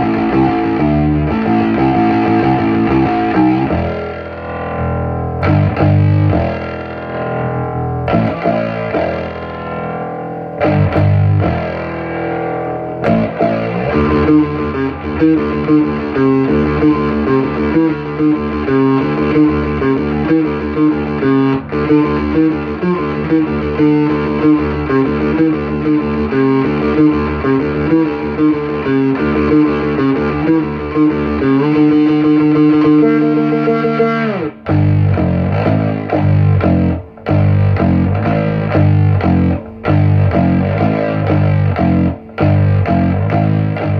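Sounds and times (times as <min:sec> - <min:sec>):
bass guitar riff: 0:00.0 - 0:43.9.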